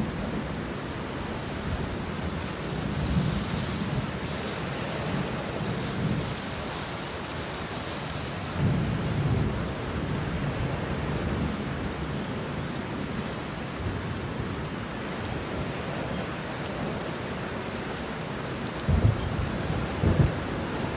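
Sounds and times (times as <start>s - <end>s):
pouring rain: 0.0s - 20.9s.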